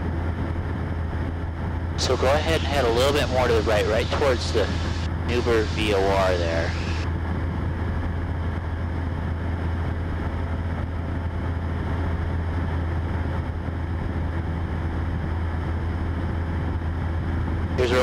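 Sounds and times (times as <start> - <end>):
airplane engine and propeller droning: 0.0 - 18.0.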